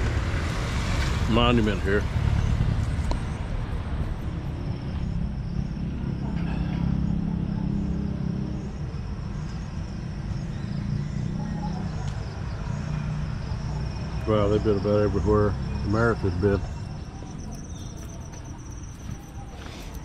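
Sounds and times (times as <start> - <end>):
vehicle engines passing: 0.0 - 20.0
high insect trill: 0.8 - 20.0.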